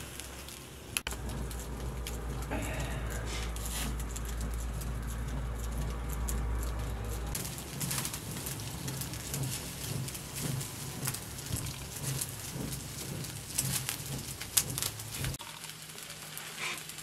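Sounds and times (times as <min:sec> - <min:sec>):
hand fan puffing air: 0:00.0 - 0:15.4
coals crackling: 0:00.0 - 0:17.0.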